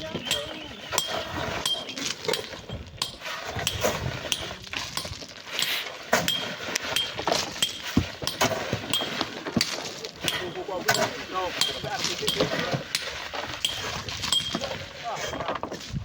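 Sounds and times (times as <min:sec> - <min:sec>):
digging tools clinking on rock: 0:00.0 - 0:15.5.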